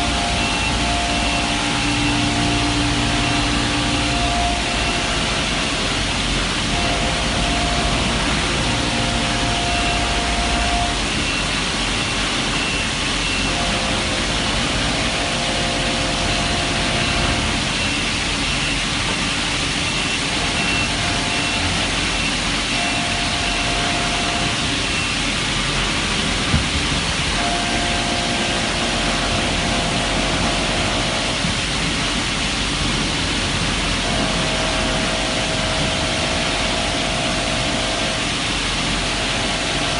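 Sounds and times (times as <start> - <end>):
cutting tool whine: 0.0 - 32.0, 33.8 - 39.9
milling machine noise: 0.0 - 39.9.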